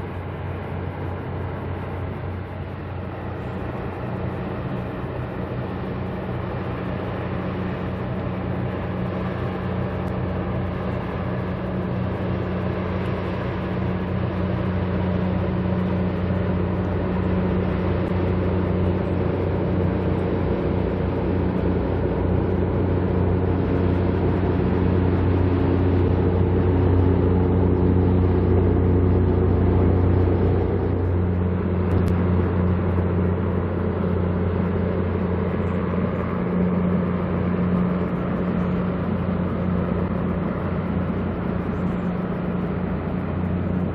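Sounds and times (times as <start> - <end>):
ferry diesel engines droning: 0.0 - 43.9.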